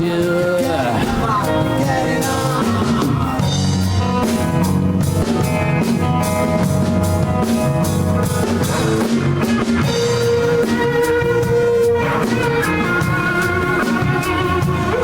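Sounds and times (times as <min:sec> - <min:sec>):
drum kit steady beat: 0:00.0 - 0:15.0
rock band playing live: 0:00.0 - 0:15.0.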